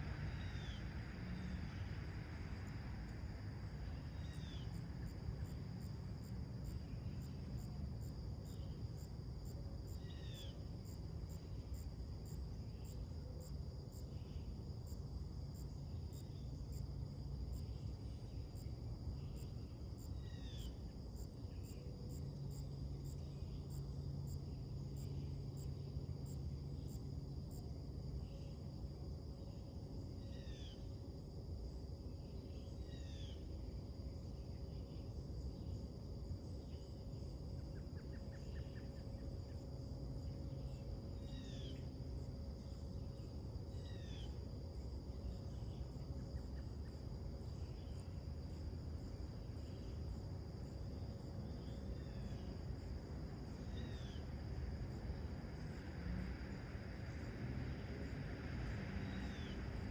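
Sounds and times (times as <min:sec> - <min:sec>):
high insect drone: 0:00.0 - 0:59.9
low background rumble: 0:00.0 - 0:59.9.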